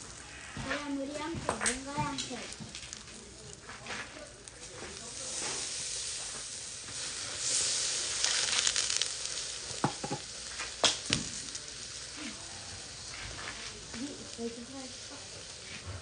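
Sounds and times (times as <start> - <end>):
chicken sizzling over charcoal: 0.0 - 16.0.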